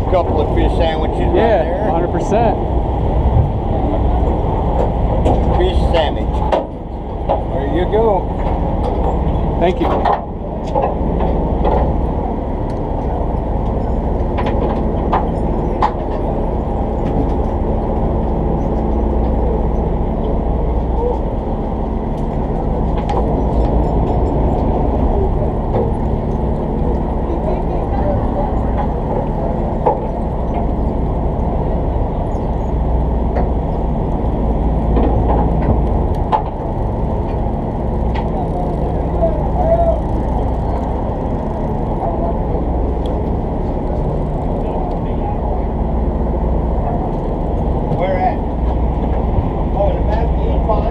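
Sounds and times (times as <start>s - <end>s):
water noise: 0.0s - 50.8s
boat engine humming: 0.0s - 50.9s
wind: 0.0s - 50.9s.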